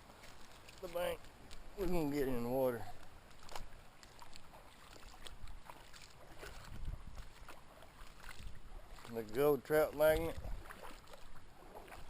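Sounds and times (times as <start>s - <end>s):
footsteps splashing in water: 0.0s - 12.0s
scrapes and knocks on creek bank: 0.0s - 12.0s.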